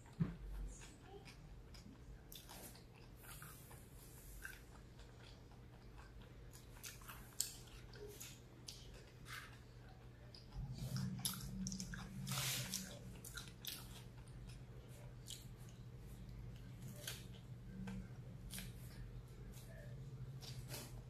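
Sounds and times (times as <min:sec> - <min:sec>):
biting and chewing: 0:00.0 - 0:19.2.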